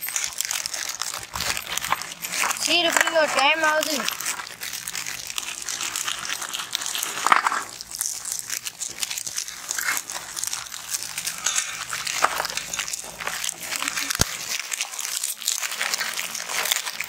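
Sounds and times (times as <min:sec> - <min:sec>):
plastic wrappers crinkling: 0:00.0 - 0:17.0.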